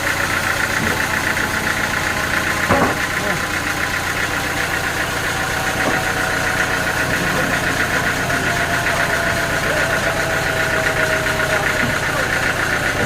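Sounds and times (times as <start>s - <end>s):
sawmill machinery droning: 0.0s - 13.0s.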